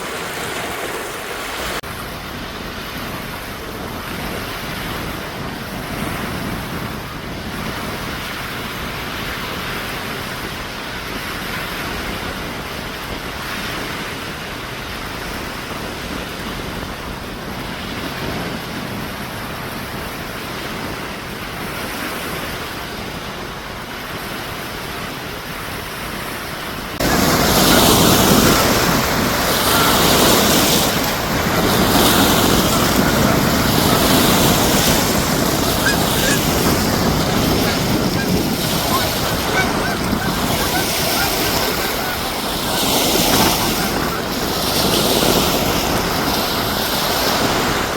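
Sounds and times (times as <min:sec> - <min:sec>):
lake waves breaking on shore: 0:00.0 - 0:47.9
steady wind: 0:00.0 - 0:47.9.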